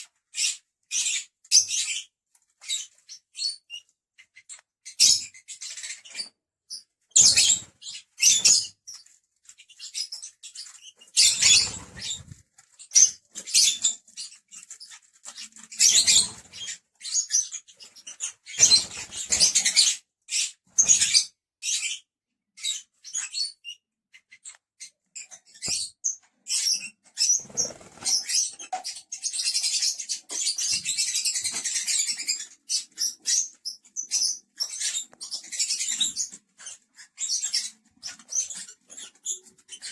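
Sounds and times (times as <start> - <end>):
lovebirds chirping and squeaking: 0.0 - 39.9.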